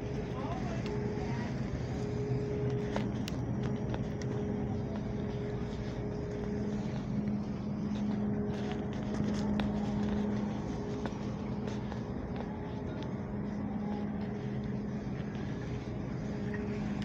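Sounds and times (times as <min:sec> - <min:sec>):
low machine hum: 0:00.0 - 0:17.0
light clicks and rustles: 0:00.4 - 0:17.0.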